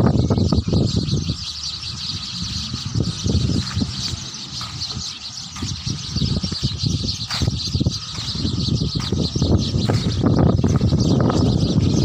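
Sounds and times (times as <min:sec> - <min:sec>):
small birds chirping: 0:00.0 - 0:12.0
low rumble: 0:01.1 - 0:12.0.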